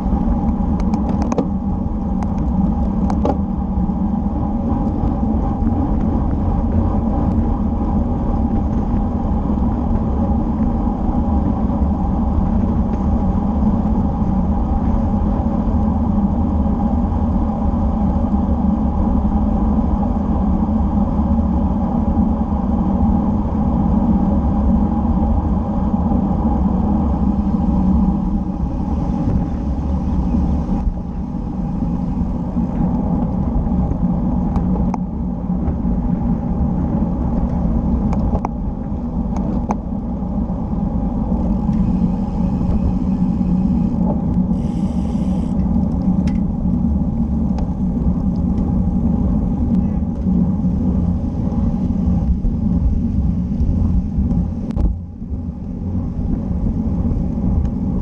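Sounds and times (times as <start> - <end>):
tyres on asphalt: 0.0 - 17.1, 25.1 - 58.0
wind rumble: 0.0 - 58.0.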